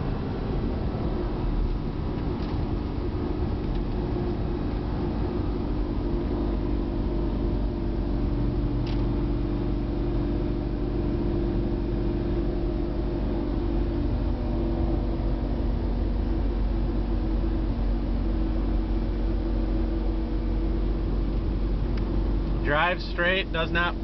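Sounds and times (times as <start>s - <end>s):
car engine cruising: 0.0s - 24.0s
road noise inside car: 0.0s - 24.0s.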